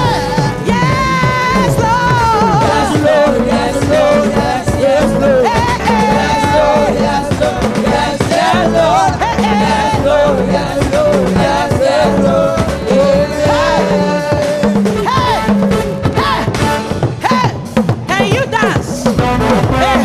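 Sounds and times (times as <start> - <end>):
woman singing into microphone: 0.0 - 16.6
drum beat: 0.0 - 20.0
live gospel music: 0.0 - 20.0.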